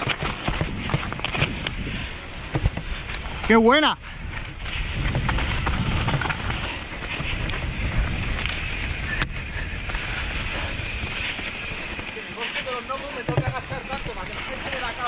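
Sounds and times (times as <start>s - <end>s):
wind on microphone: 0.0s - 12.2s
bike clattering: 0.0s - 15.0s
bike tyres rolling on dirt: 0.0s - 15.0s.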